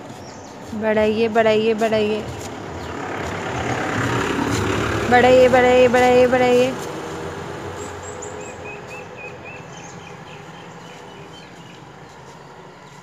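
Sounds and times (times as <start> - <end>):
bird chirping: 0.0 - 13.0
scooter engine humming: 0.0 - 13.0.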